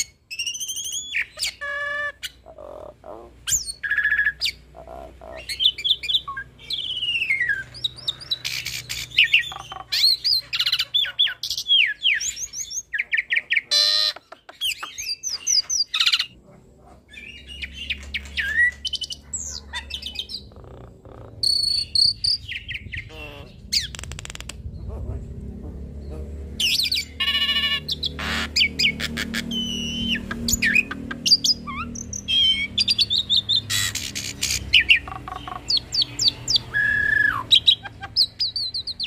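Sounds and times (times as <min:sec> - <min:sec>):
starling singing: 0:00.0 - 0:16.4, 0:17.1 - 0:39.0.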